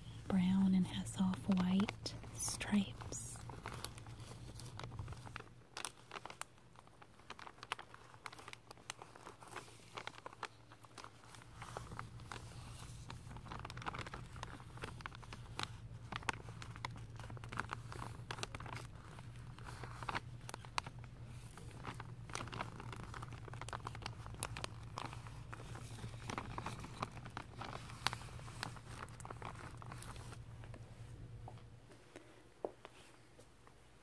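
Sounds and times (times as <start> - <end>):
steady low hum: 0.0 - 7.5, 8.6 - 34.0
plastic sheeting crinkling: 0.0 - 34.0.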